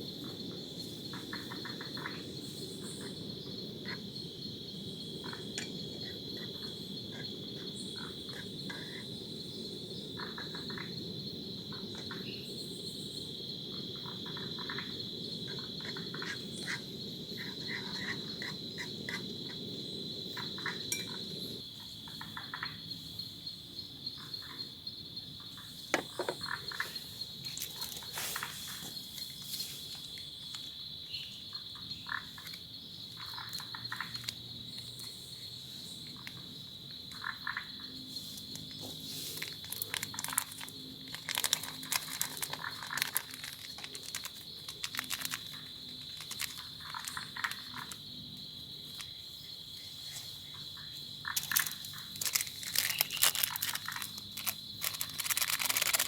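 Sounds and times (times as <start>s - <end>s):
frogs croaking: 0.0s - 56.0s
high insect drone: 0.0s - 56.0s.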